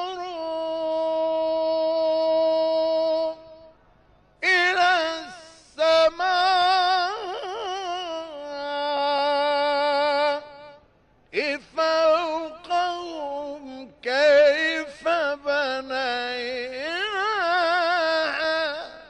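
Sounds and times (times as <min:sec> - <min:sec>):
man reciting melodically: 0:00.0 - 0:03.7, 0:04.4 - 0:19.0.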